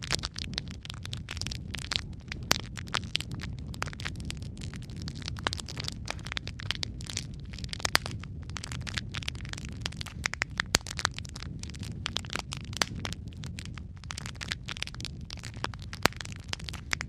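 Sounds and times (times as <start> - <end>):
sharp snaps of fire: 0.0 - 17.0
wood fire crackling: 0.0 - 17.0.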